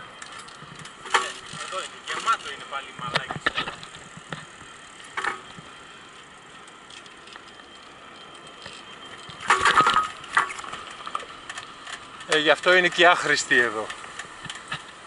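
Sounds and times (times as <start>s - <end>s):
bicycle rattling and clicking: 0.0s - 15.0s.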